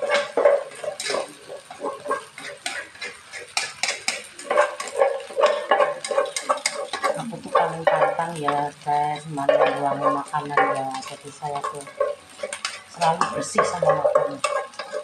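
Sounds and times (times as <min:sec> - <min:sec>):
utensil scraping a pot: 0:00.0 - 0:15.0.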